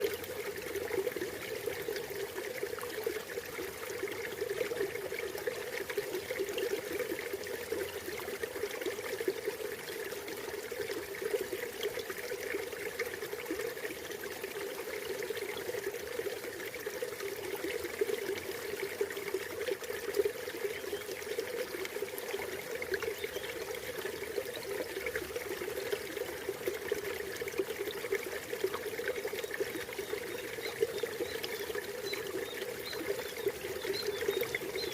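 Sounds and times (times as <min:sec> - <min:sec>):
river water flowing over rocks: 0:00.0 - 0:34.9.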